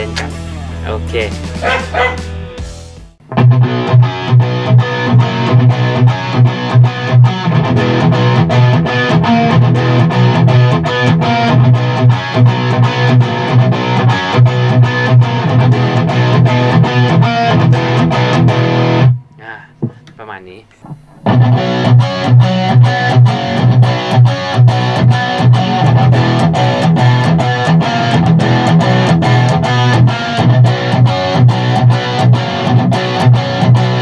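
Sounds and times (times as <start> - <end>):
electric guitar picked run: 0.0 - 34.0.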